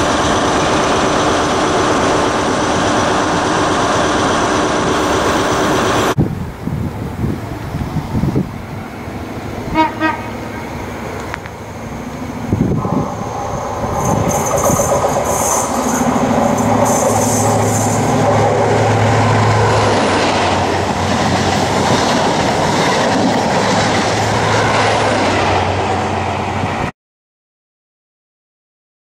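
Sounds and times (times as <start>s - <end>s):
train wheels rushing on rail: 0.0s - 26.9s.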